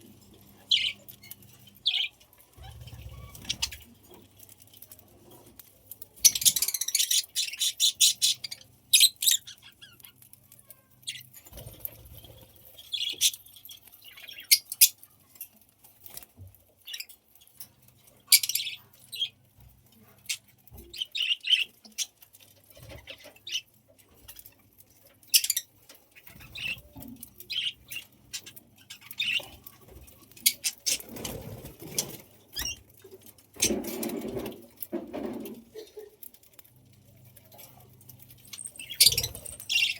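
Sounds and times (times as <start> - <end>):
budgies chirping and chattering: 0.0 - 39.9.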